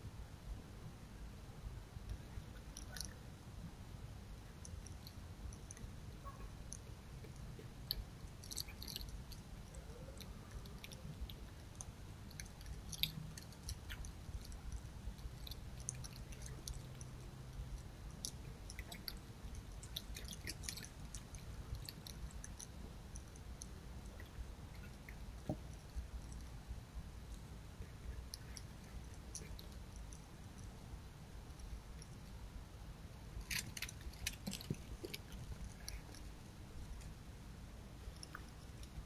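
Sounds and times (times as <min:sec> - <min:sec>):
fox chewing food: 0:04.6 - 0:32.4, 0:33.2 - 0:37.3, 0:37.9 - 0:39.0.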